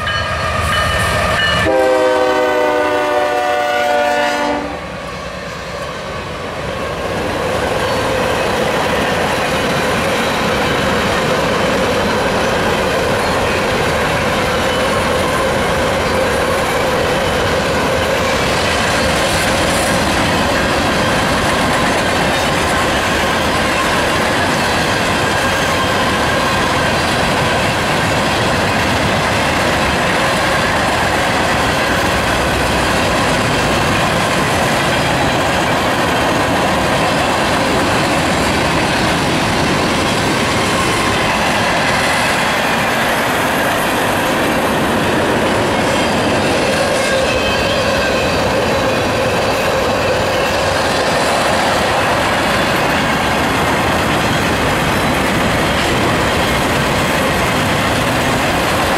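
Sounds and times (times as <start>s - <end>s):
steel wheels rumbling on rail: 0.0s - 58.9s.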